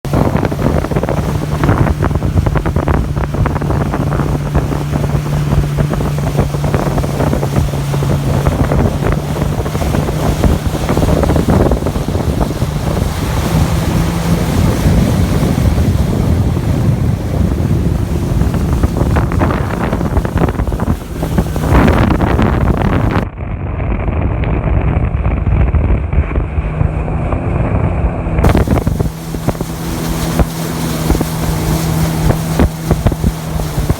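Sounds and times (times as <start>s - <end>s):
water rushing and splashing: 0.0s - 23.3s, 26.6s - 33.9s
jet ski engine running: 0.0s - 33.9s
wind buffeting microphone: 0.0s - 33.9s.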